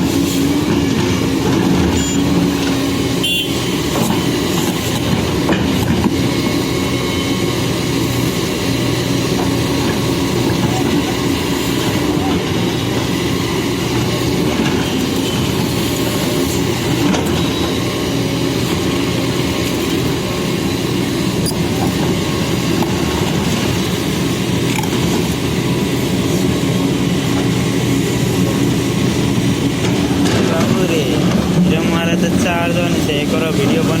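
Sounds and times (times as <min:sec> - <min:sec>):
diesel engine rumbling: 0:00.0 - 0:34.0.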